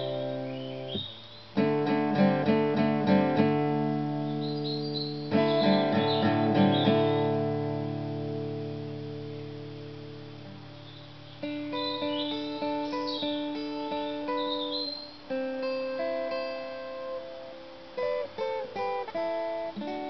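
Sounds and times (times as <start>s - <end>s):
birds chirping: 0.0s - 19.8s
acoustic guitar playing: 0.0s - 20.0s.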